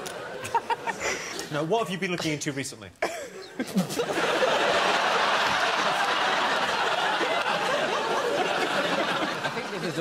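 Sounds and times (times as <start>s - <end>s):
audience laughing: 0.3s - 1.4s, 3.0s - 10.0s.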